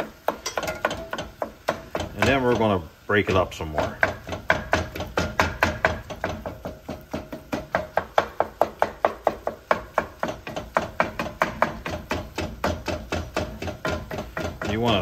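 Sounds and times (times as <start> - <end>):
spatula knocking on skillet: 0.0 - 15.0.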